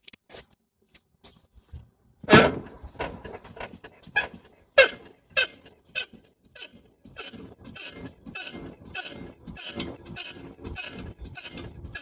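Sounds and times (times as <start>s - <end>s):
suspension squeaking: 2.3s - 12.0s.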